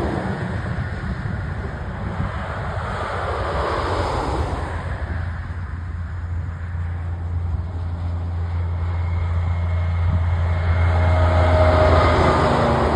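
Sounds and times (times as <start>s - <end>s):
truck diesel engine under load: 0.0s - 12.9s.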